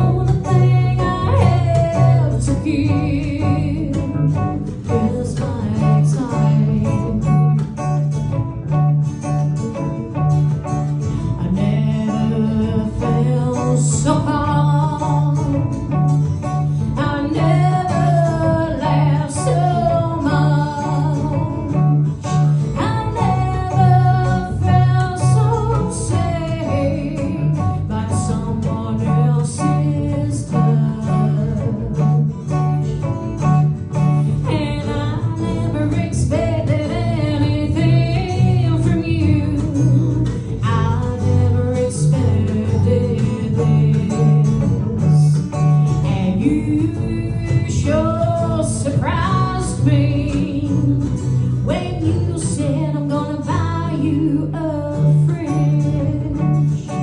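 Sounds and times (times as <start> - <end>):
person singing: 0.0 - 8.0, 9.6 - 32.7, 34.0 - 57.0
bass line: 0.0 - 57.0
guitar accompaniment: 0.0 - 57.0.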